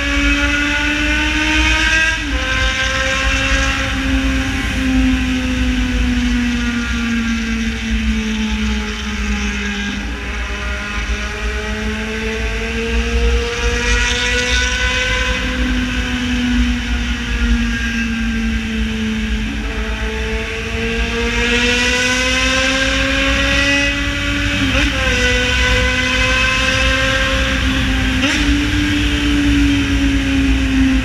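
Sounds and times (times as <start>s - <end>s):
motorcycle engine cruising: 0.0s - 31.0s.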